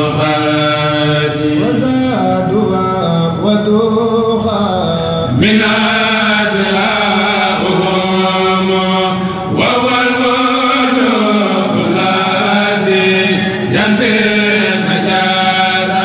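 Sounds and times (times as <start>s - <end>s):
men chanting unaccompanied: 0.0s - 16.0s.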